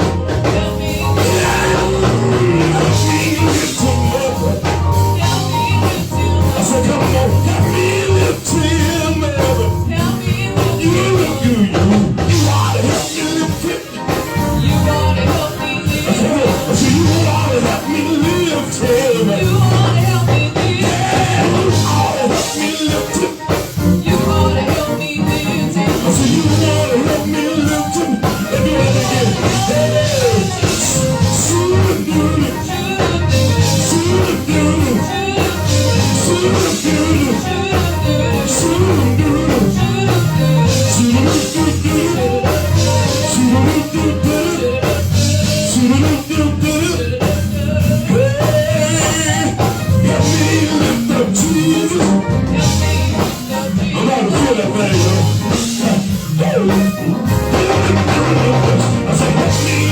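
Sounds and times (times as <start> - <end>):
bass line: 0.0 - 59.9
bending melodic lead: 0.0 - 59.9
live gospel band playing: 0.0 - 59.9
steady drum beat: 0.0 - 59.9.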